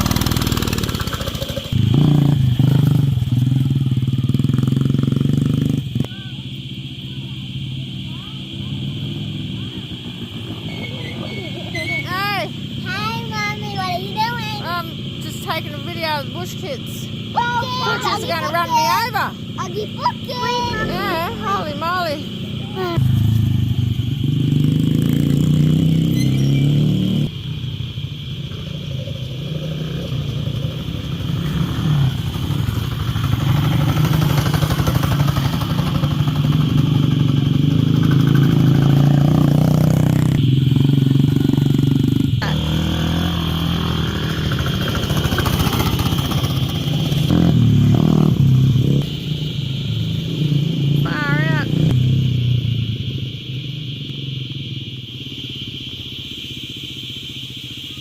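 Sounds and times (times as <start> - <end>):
small vehicle engine running: 0.0 - 58.0.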